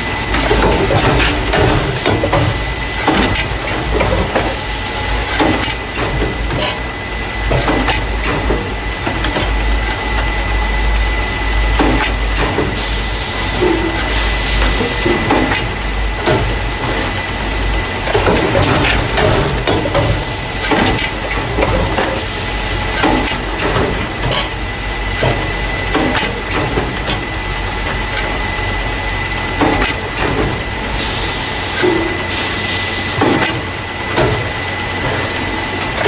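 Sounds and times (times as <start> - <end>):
machine rumble and whine: 0.0 - 36.0.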